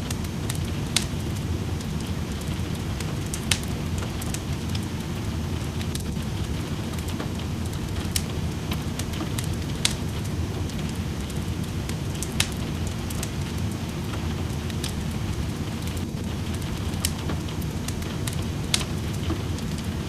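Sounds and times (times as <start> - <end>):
rain: 0.0 - 20.0
sharp pops of fire: 0.0 - 20.0
wood fire crackling: 0.0 - 20.0.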